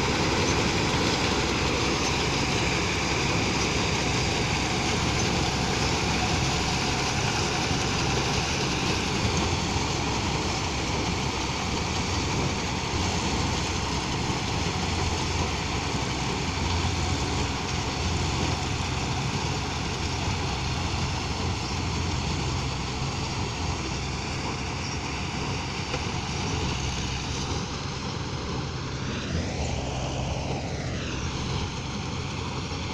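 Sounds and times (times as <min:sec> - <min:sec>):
combine harvester running: 0:00.0 - 0:32.9.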